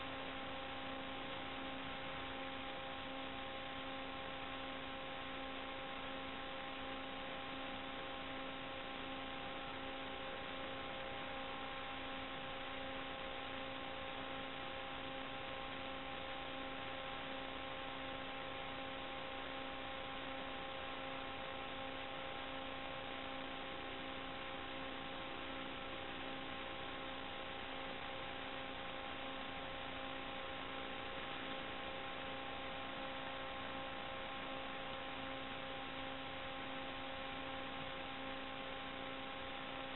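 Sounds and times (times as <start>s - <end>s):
electrical buzzing hum: 0.0s - 39.9s.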